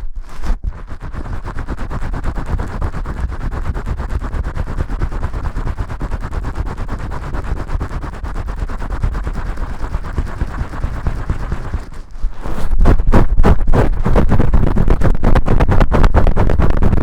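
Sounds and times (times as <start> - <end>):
scratchy shampoo scrubbing: 0.3 - 17.0.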